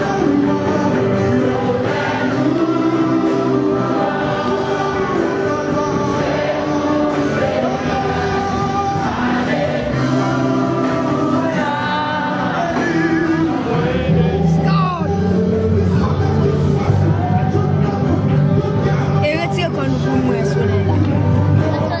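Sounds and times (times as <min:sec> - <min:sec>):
choir singing a gospel hymn: 0:00.0 - 0:21.8.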